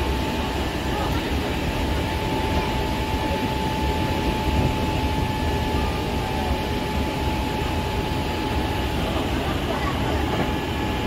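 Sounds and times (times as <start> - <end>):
thin steady whine: 0.0 - 11.0
train wheels rumbling on rail: 0.0 - 11.0.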